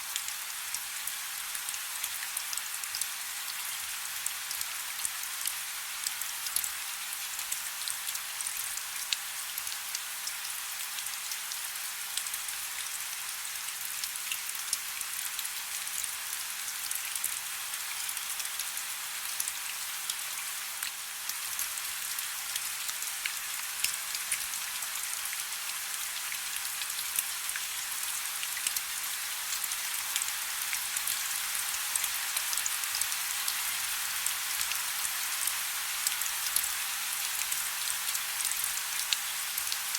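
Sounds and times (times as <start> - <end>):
soft rain with drop ticks: 0.1 - 39.9.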